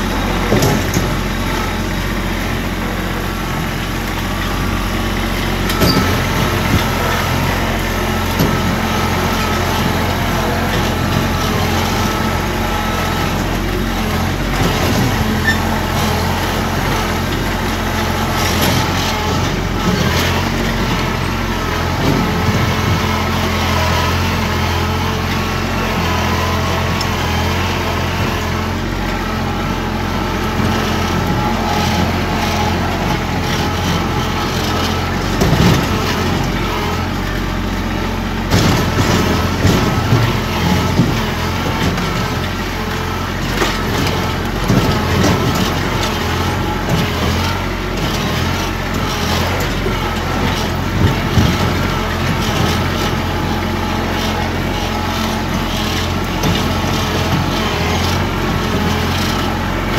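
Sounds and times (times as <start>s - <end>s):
machine knocking and rattling: 0.0s - 59.9s
tractor engine running: 0.0s - 59.9s.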